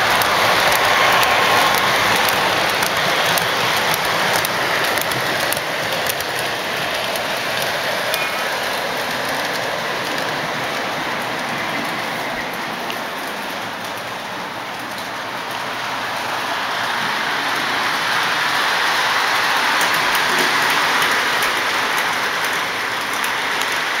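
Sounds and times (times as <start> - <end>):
model trains rolling on track: 0.0 - 24.0.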